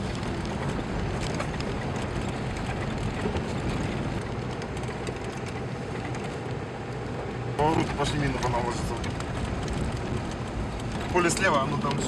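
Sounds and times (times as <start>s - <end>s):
vehicle engine running: 0.0s - 12.0s
vehicle rattling: 0.0s - 12.0s.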